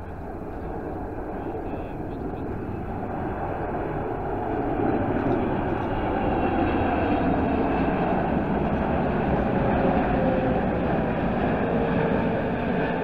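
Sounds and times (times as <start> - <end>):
jet engines rumbling overhead: 0.0 - 13.0.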